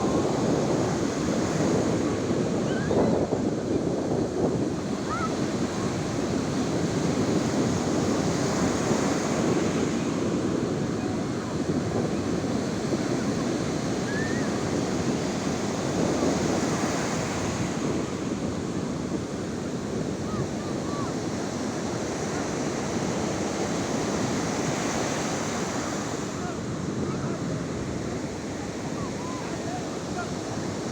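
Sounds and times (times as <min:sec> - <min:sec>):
sea waves washing on shore: 0:00.0 - 0:30.9
wind buffeting microphone: 0:00.0 - 0:30.9.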